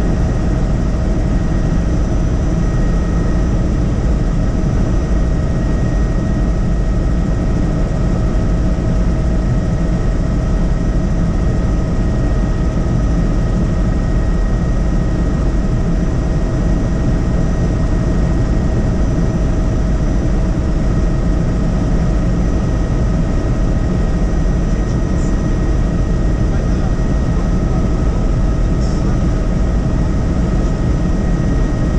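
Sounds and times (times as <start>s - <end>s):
helicopter rotor drone: 0.0s - 31.9s
thin steady whine: 0.0s - 31.9s.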